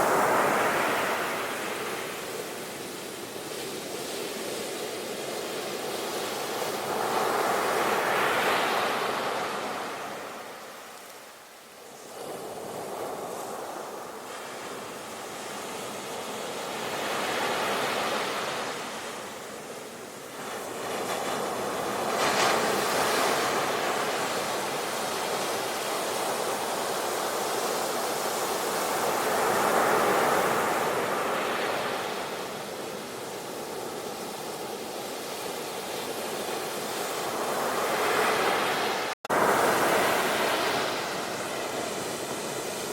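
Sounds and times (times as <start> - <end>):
ocean waves breaking on shore: 0.0 - 42.9.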